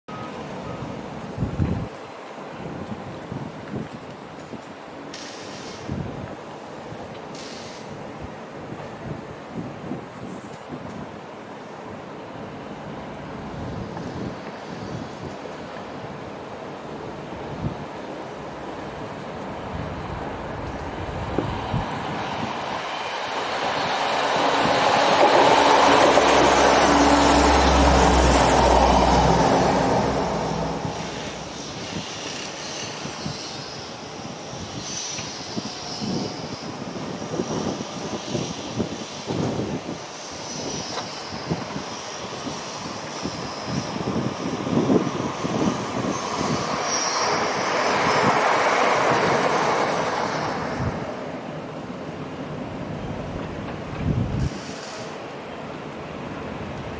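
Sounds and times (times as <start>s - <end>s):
low train engine drone: 0.1s - 56.9s
train wheels rumbling on rails: 0.1s - 56.9s.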